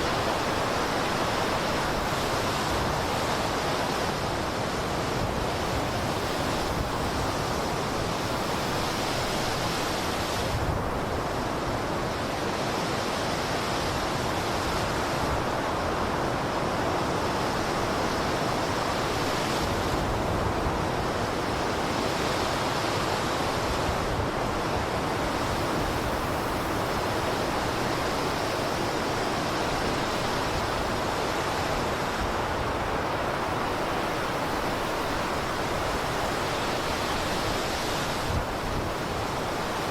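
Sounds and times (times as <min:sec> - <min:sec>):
blizzard wind blowing: 0:00.0 - 0:39.9.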